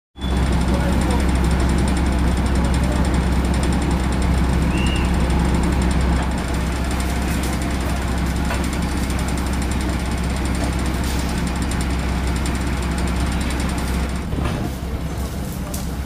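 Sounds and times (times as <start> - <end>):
heavy engine running: 0.2 - 16.0.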